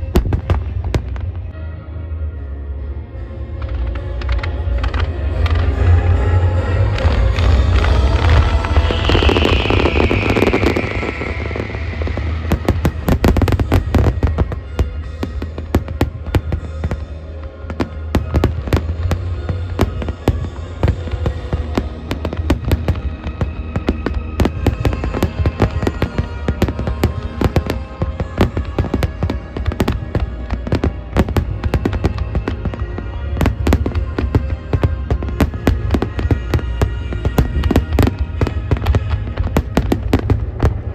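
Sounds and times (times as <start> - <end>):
fireworks crackling and banging: 0.0 - 1.6, 3.6 - 40.9
deep rumble: 0.0 - 40.9
music playing: 0.0 - 40.9.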